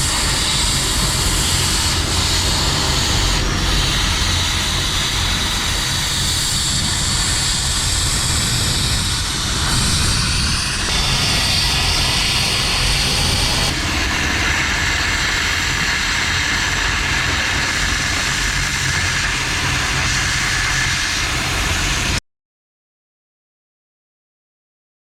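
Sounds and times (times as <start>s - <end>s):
loud machine hum: 0.0s - 22.2s.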